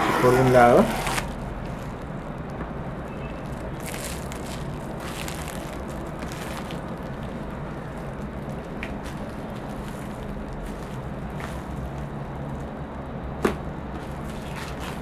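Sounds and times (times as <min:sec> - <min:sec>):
steady low hum: 0:00.0 - 0:15.0
plastic shrink wrap crinkling: 0:00.9 - 0:12.8, 0:14.0 - 0:15.0.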